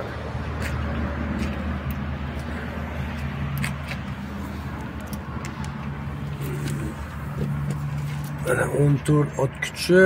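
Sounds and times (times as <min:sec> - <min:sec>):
engine humming: 0:00.0 - 0:09.6.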